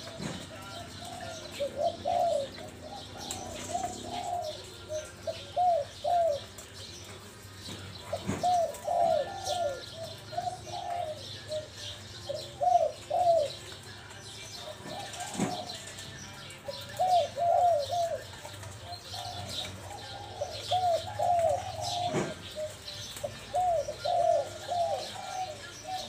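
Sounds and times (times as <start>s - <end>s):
dove cooing: 0.0s - 13.9s, 14.5s - 26.0s
small birds chirping: 0.0s - 26.0s.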